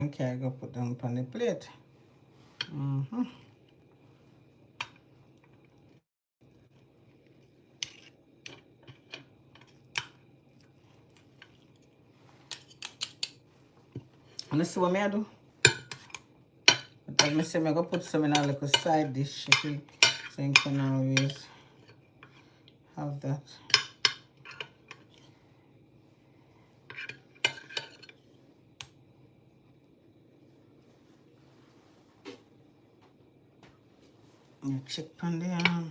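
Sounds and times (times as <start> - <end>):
low room hum: 0.0 - 35.9.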